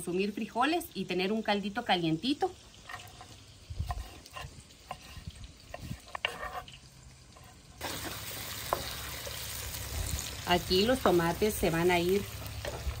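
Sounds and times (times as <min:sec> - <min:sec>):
food sizzling in hot fat: 0:00.0 - 0:13.0.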